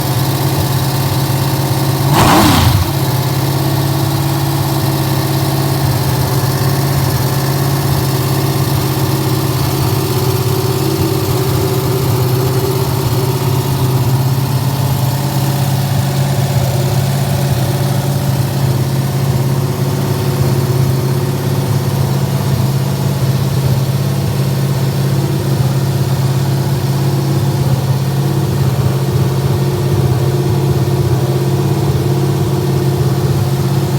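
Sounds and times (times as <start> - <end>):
engine idling fast: 0.0 - 33.9.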